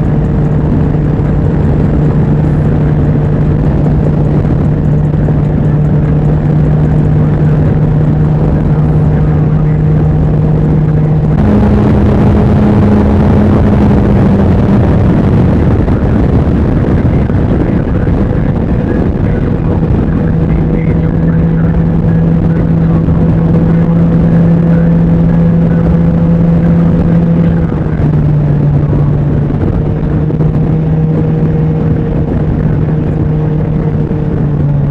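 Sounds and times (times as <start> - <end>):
three-wheeler engine running: 0.0 - 34.9.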